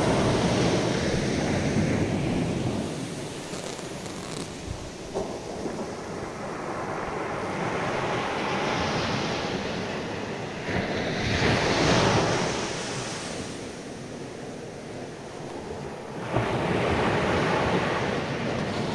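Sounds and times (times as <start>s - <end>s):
small waves breaking: 0.0s - 18.9s
surf washing up sand: 0.0s - 18.9s.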